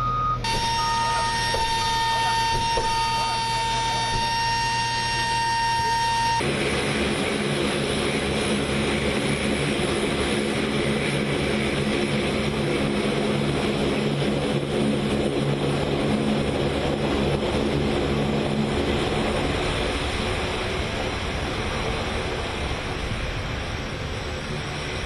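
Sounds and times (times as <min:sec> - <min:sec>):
turboprop aircraft engines droning: 0:00.0 - 0:25.0.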